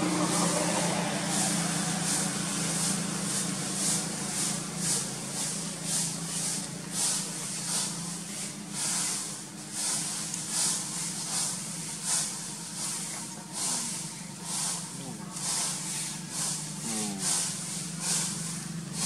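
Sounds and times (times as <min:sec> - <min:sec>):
pulsing high hiss: 0:00.0 - 0:19.0
steady low hum: 0:00.0 - 0:19.0.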